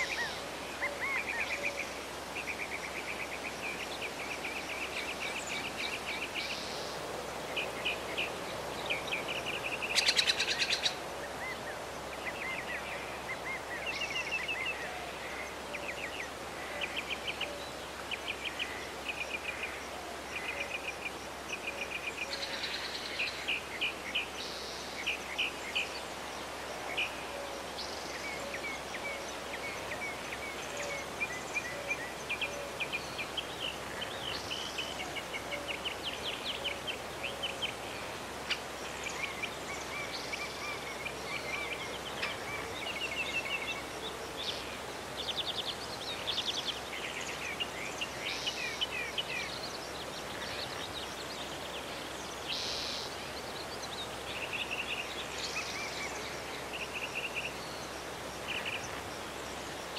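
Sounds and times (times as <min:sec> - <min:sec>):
songbirds chirping and trilling: 0:00.0 - 0:59.9
steady outdoor hiss: 0:00.0 - 0:59.9.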